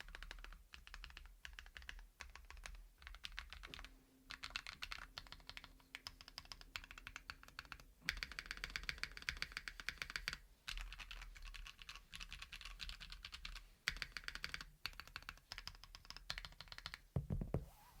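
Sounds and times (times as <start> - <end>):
mechanical keyboard typing: 0.0 - 17.1.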